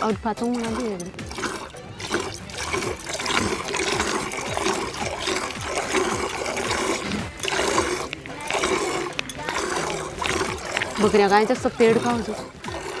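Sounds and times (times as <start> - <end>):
milk squirting into plastic bucket: 0.0 - 13.0.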